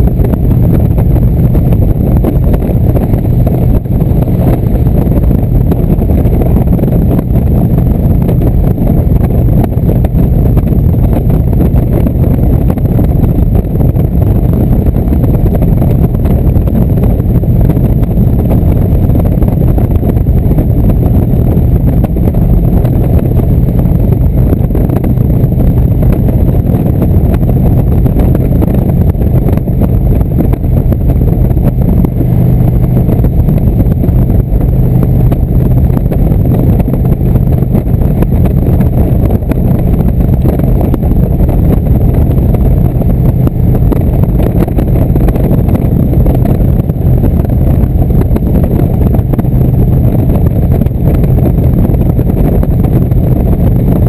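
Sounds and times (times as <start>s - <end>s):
motorcycle engine cruising: 0.0s - 54.0s
wind rumble on microphone: 0.0s - 54.0s.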